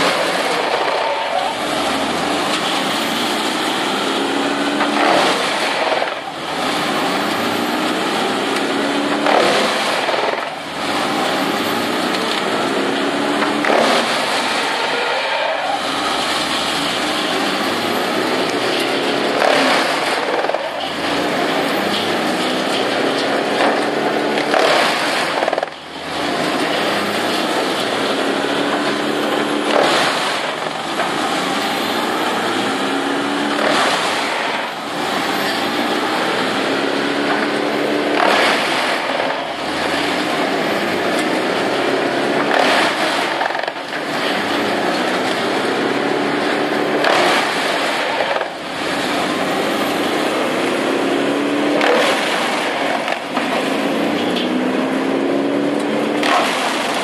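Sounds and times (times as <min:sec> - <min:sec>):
wood chipper grinding a log: 0:00.0 - 0:57.0.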